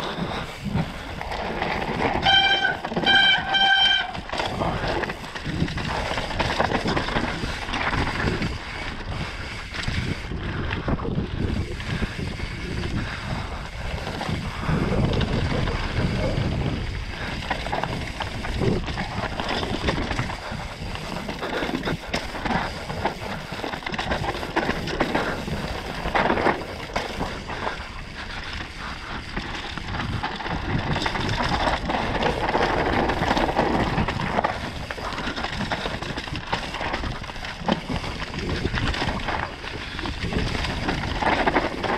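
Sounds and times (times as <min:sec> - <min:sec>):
bike knocking and rattling: 0:00.0 - 0:41.9
tyres rolling over dirt and stones: 0:00.0 - 0:41.9
wind rushing over microphone: 0:00.0 - 0:41.9.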